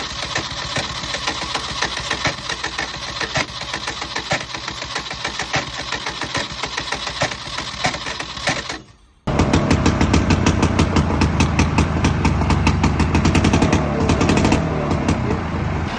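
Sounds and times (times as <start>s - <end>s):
tractor engine knocking: 0.0s - 15.9s.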